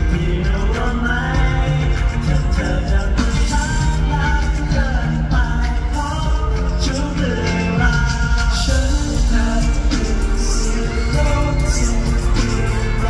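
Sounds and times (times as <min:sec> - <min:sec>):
live pop song over speakers: 0:00.0 - 0:13.0.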